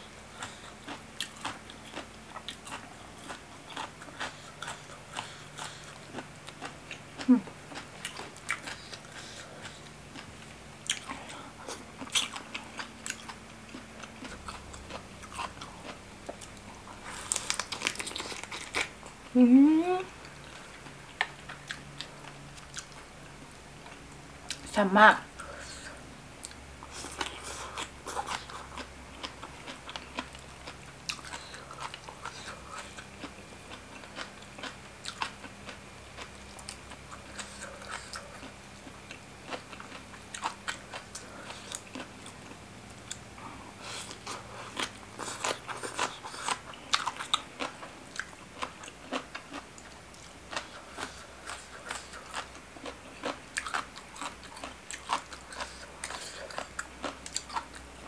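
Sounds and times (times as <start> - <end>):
close chewing and crunching: 0.0 - 19.4, 20.2 - 24.8, 25.4 - 58.0.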